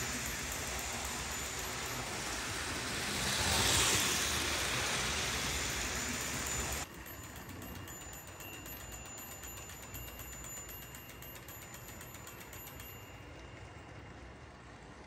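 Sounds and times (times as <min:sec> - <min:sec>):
model train wheels clicking: 0:00.0 - 0:15.0.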